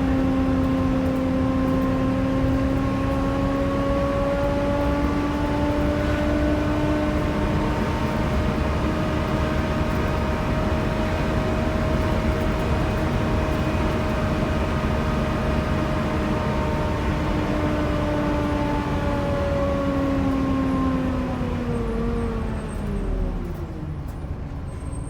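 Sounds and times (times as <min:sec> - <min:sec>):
engine cooling fan whining: 0:00.0 - 0:24.9
bus engine and road rumble: 0:00.0 - 0:25.0.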